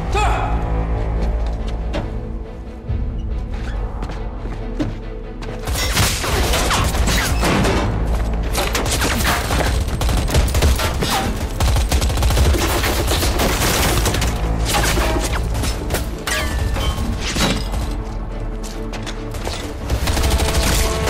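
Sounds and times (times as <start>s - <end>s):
film score music: 0.0s - 21.0s.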